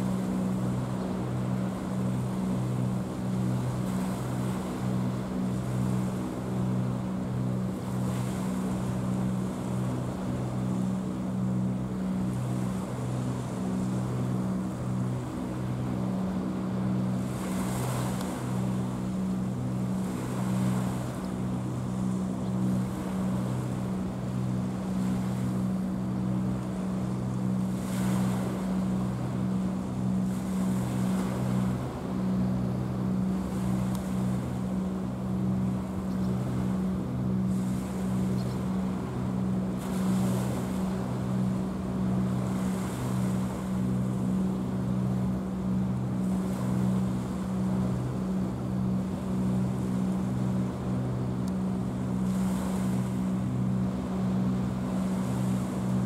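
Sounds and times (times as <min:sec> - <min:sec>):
ship diesel engine drone: 0:00.0 - 0:56.0
waves rushing: 0:00.0 - 0:56.0.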